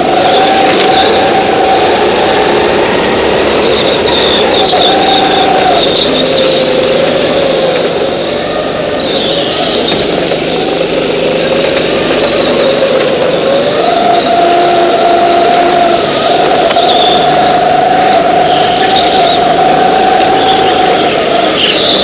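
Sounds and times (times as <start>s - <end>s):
go-kart engines running hard: 0.0s - 22.0s.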